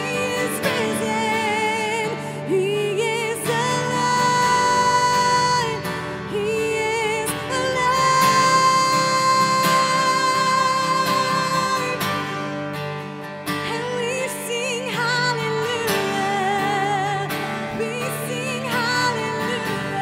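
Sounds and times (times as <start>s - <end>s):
strummed acoustic guitar: 0.0s - 20.0s
woman singing: 0.0s - 20.0s.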